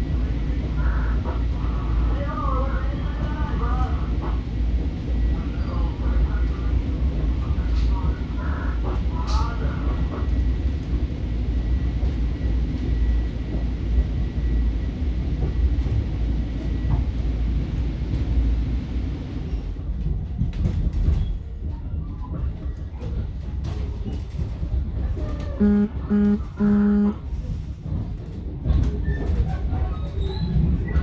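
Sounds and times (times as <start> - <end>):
train wheels rumbling on rails: 0.0 - 26.1, 27.2 - 31.0.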